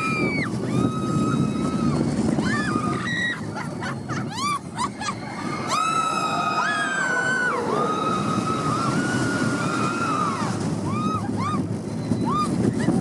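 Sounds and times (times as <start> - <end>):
wind noise rushing: 0.0 - 3.6, 5.4 - 13.0
people screaming on roller coaster: 0.0 - 13.0.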